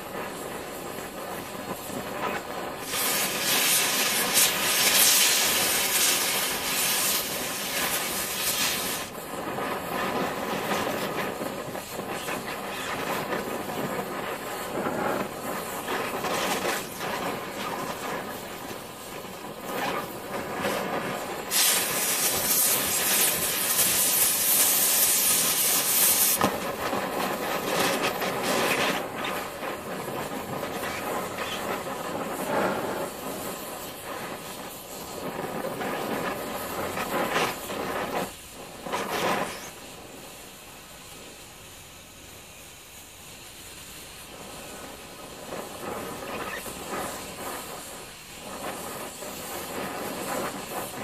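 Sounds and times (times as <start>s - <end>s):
cutting torch flame hissing: 0.0s - 51.0s.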